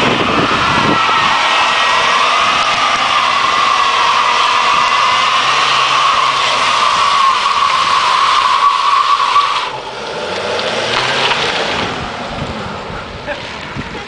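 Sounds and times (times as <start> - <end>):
tyre squealing: 0.0 - 12.0
van engine revving: 0.0 - 14.0.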